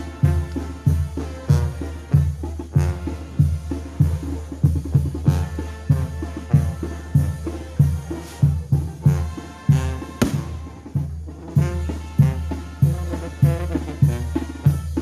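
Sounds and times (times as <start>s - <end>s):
bass drum and snare beat: 0.0s - 15.0s
brass band playing: 0.0s - 15.0s.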